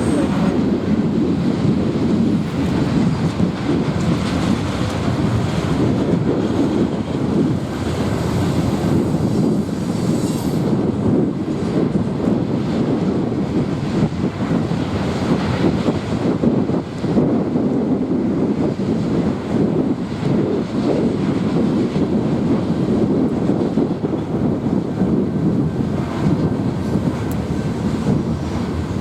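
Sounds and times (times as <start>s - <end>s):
train rumbling on rails: 0.0s - 29.0s
wind on microphone: 0.0s - 29.0s.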